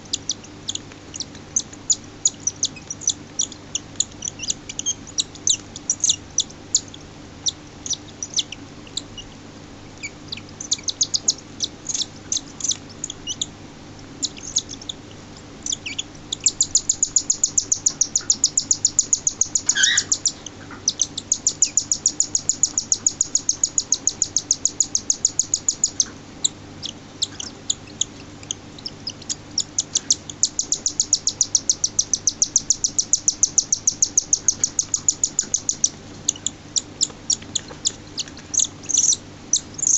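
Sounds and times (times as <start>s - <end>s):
bird chick chirping: 0.0s - 39.9s.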